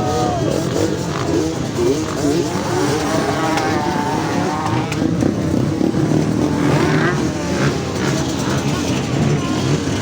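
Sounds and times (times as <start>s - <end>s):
other engines running: 0.0s - 10.0s
two-stroke engine revving: 0.0s - 10.0s.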